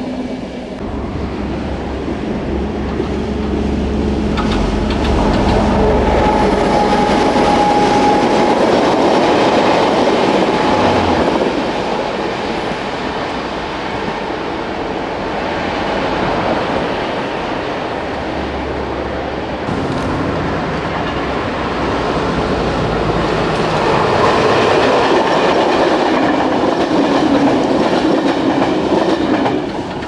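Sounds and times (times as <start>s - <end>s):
train wheels rumbling and clattering: 0.7s - 17.4s, 19.6s - 30.0s.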